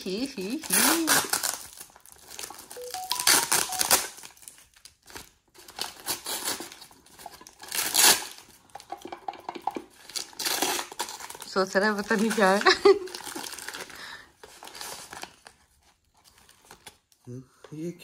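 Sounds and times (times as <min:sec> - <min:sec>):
paper tearing and crinkling: 0:00.6 - 0:08.6, 0:10.0 - 0:17.1.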